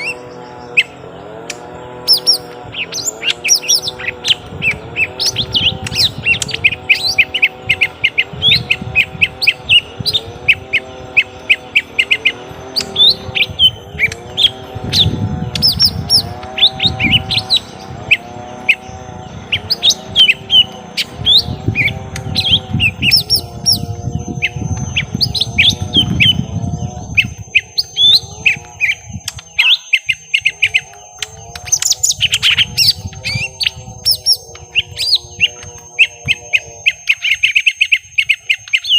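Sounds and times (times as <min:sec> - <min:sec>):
birds chirping rapidly: 0:00.0 - 0:38.9
lower bird call: 0:00.0 - 0:38.9.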